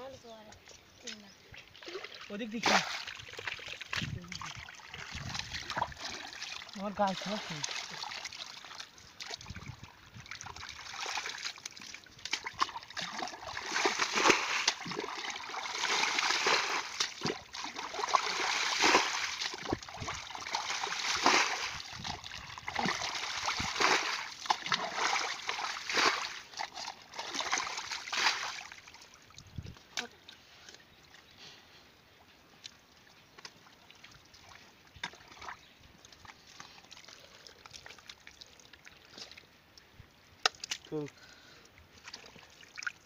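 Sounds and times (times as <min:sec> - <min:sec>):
muddy water splashing: 0:00.2 - 0:31.4, 0:32.5 - 0:43.0.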